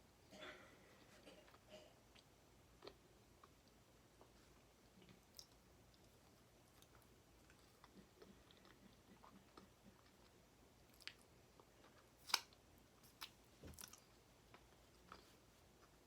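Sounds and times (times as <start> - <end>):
close-up chewing: 1.0 - 16.0.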